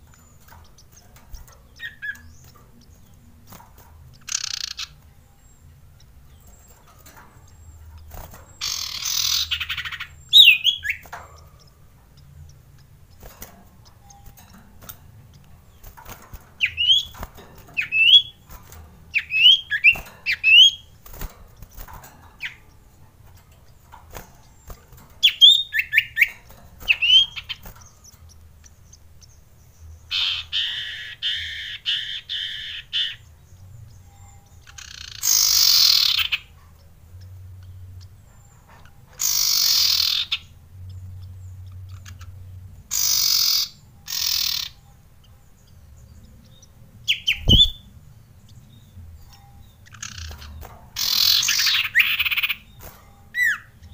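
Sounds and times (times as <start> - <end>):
harsh rasping bird calls: 0.0 - 23.0, 23.6 - 33.3, 34.1 - 36.6, 37.2 - 53.9
bird chirping: 0.0 - 53.9.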